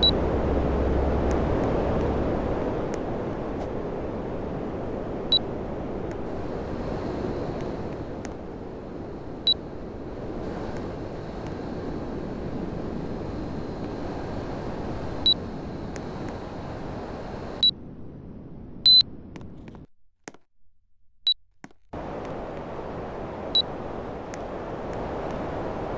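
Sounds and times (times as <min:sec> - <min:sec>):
air conditioner fan blowing: 0:00.0 - 0:17.8, 0:22.0 - 0:25.9.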